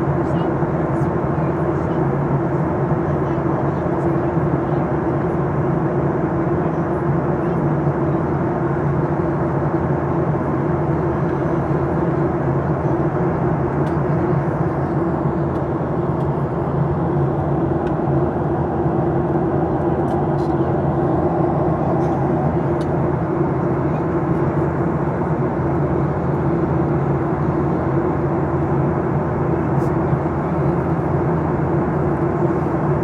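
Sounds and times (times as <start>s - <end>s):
airplane cabin noise: 0.0s - 33.0s.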